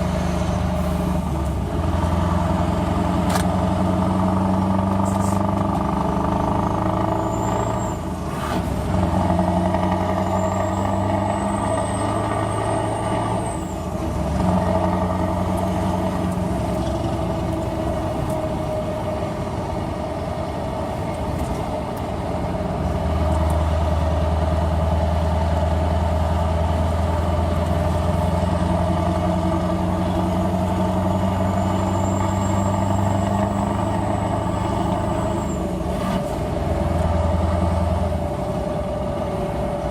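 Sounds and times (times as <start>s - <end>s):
truck engine with open exhaust: 0.0s - 39.9s.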